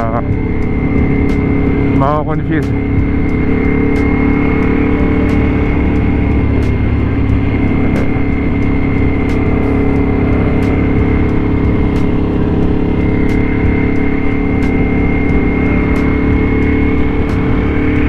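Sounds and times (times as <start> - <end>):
motorcycle engine cruising: 0.0 - 18.0
road and wind noise: 0.0 - 18.0.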